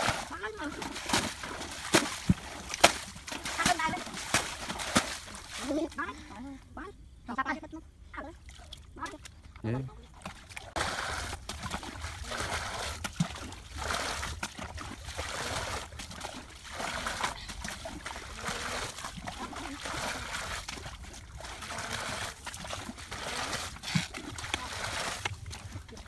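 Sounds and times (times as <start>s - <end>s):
muddy water splashing: 0.0s - 6.5s, 8.2s - 26.0s.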